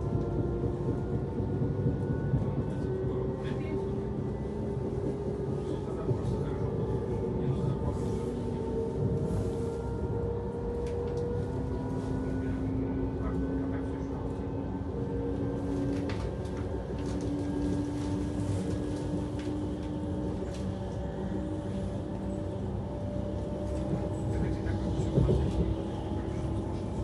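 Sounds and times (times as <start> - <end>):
train rumble inside carriage: 0.0 - 27.0.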